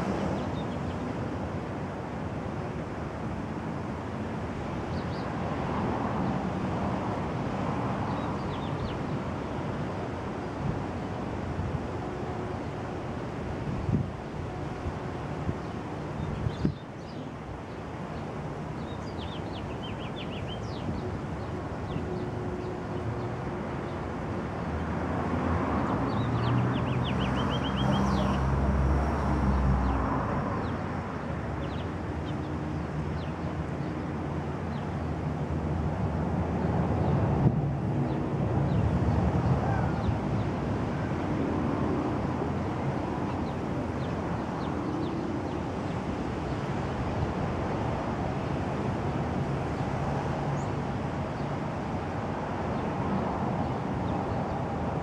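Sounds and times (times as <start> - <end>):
passing vehicle engines: 0.0 - 55.0
traffic rumble: 0.0 - 55.0.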